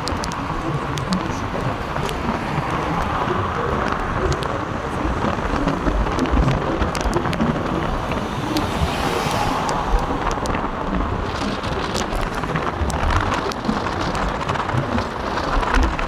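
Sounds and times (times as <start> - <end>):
continuous low rumble: 0.0 - 16.0
raindrops ticking close by: 0.0 - 16.0
steady rain falling: 0.0 - 16.0.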